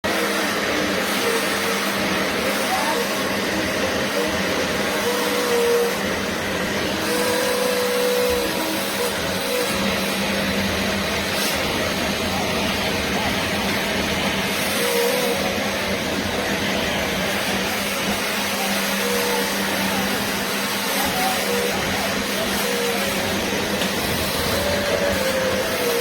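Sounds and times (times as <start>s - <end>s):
carpet cleaner running: 0.0s - 26.0s.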